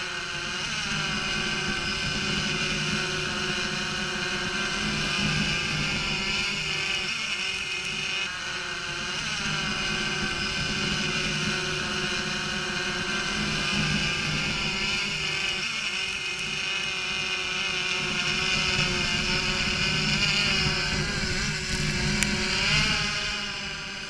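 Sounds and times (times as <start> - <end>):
drone propeller buzz: 0.0 - 24.0.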